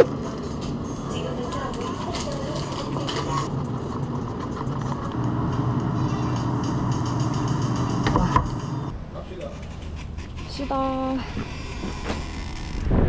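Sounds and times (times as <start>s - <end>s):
vehicle rumbling on road: 0.0s - 13.0s.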